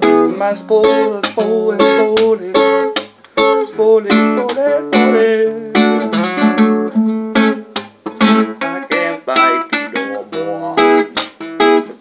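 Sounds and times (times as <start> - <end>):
classical guitar strumming chords: 0.0 - 12.0.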